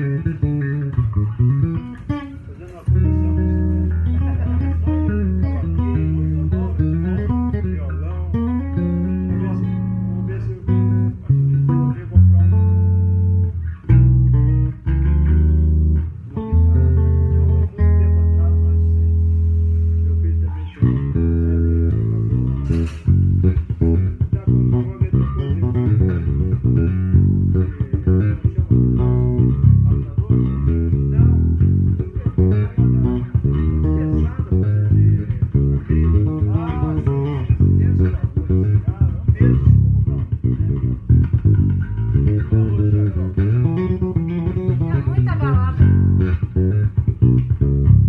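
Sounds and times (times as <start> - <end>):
electric bass plucked runs: 0.0 - 48.0.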